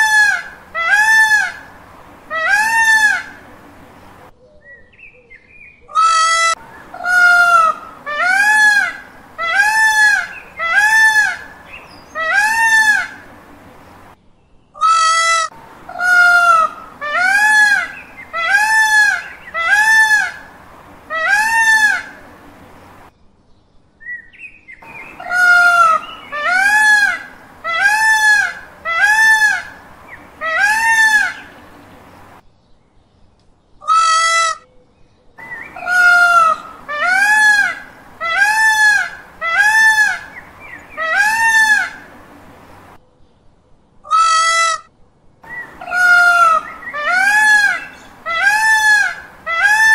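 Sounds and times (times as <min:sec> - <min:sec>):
peacocks calling: 0:00.0 - 0:04.5, 0:05.8 - 0:14.2, 0:14.8 - 0:23.1, 0:24.8 - 0:32.4, 0:33.8 - 0:34.7, 0:35.4 - 0:43.0, 0:44.0 - 0:49.9.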